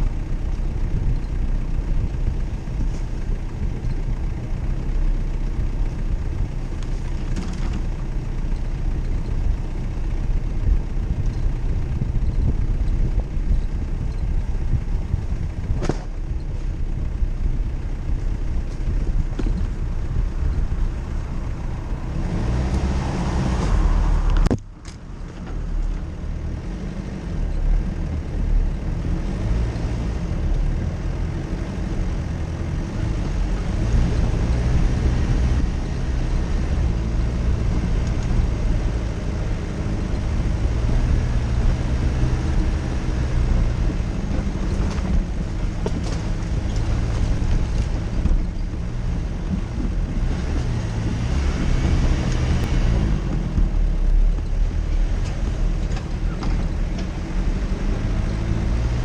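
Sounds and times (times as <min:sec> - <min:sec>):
car engine running off-road: 0:00.0 - 0:59.0.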